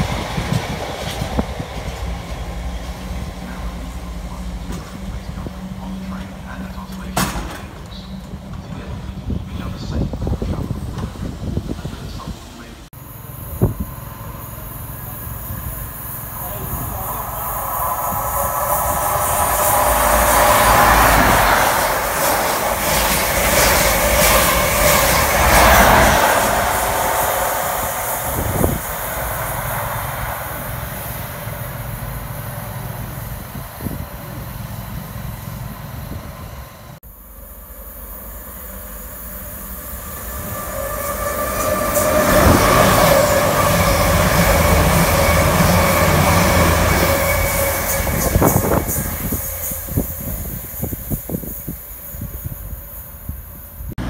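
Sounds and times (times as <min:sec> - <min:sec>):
diesel train passing: 0:00.0 - 0:54.0
passenger train running past: 0:00.0 - 0:54.0.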